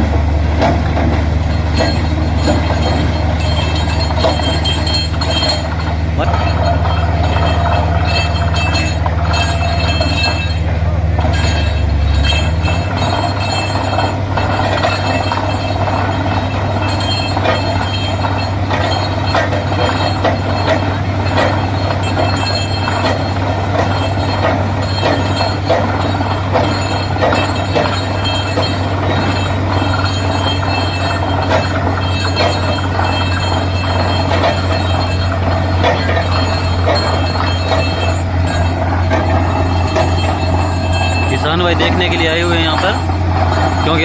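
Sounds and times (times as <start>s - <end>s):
engine and compressor drone: 0.0s - 44.0s
metallic drilling clinks: 1.4s - 44.0s.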